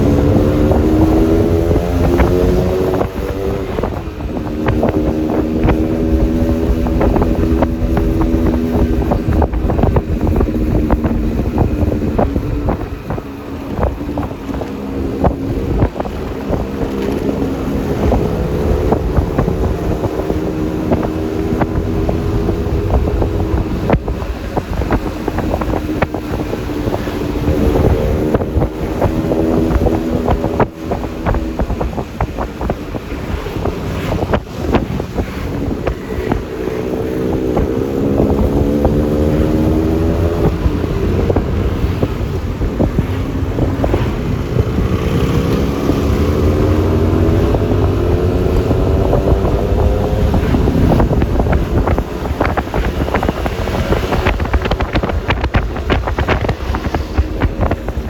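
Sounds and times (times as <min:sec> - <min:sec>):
road and wind noise: 0:00.0 - 0:58.0
scooter engine accelerating: 0:00.0 - 0:58.0.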